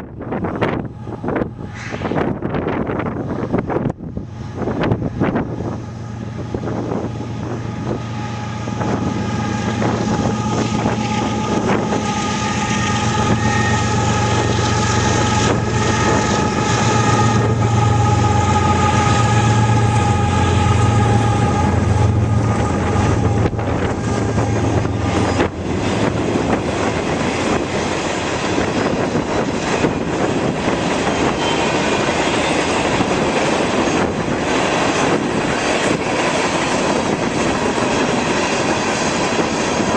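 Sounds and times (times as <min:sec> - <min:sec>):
freight cars rumbling: 0:00.0 - 0:39.9
locomotive engines droning: 0:00.0 - 0:39.9.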